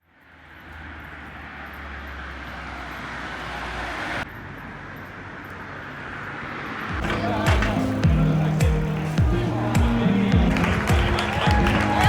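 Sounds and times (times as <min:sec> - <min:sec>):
car road noise: 0:00.0 - 0:12.0.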